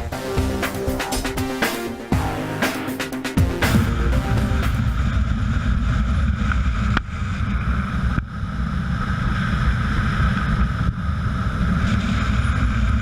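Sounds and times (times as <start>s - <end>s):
mid-pitched hum: 0.0s - 13.0s.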